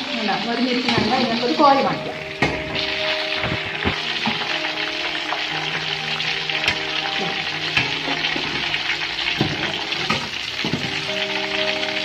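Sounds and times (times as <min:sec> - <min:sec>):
oil crackling and sizzling: 0:00.0 - 0:12.0.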